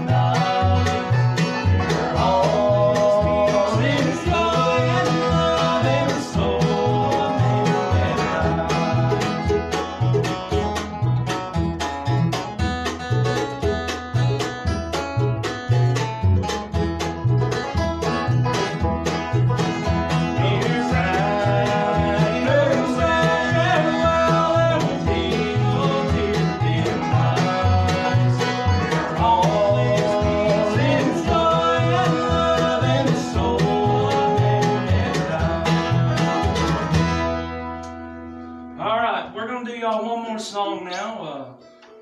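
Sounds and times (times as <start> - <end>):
mandolin: 0.0 - 39.2
upright bass: 0.0 - 41.6
acoustic guitar: 0.0 - 42.0.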